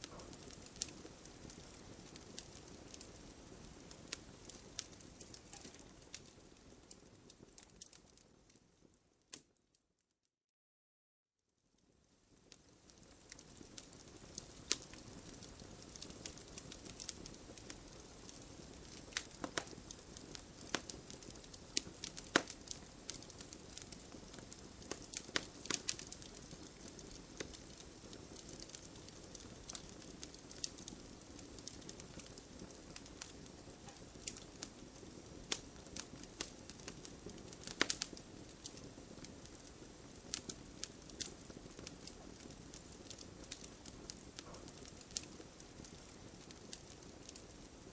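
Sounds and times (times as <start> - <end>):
fire popping and snapping: 0.0 - 9.6, 11.8 - 47.9
wood fire crackling: 0.0 - 9.6, 11.8 - 47.9.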